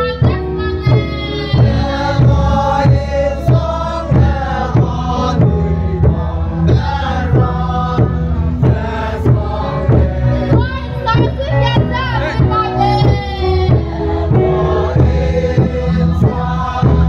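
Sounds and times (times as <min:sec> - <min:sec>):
drum struck with mallet: 0:00.2 - 0:17.0
crowd singing in unison: 0:00.9 - 0:17.0.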